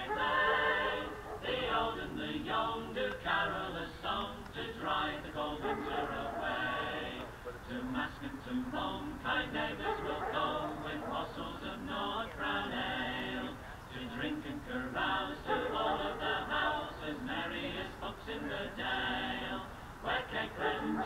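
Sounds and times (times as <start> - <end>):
voices singing chant-like song: 0.0 - 21.0.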